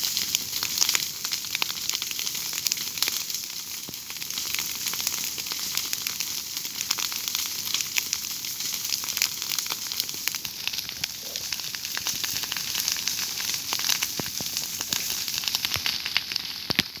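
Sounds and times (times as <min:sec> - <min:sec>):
dry grass burning with crackles: 0:00.0 - 0:17.0.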